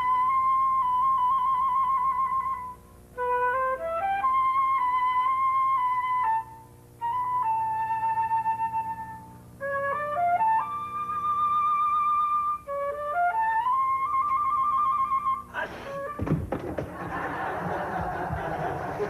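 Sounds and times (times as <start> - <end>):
solo flute melody: 0.0 - 16.2.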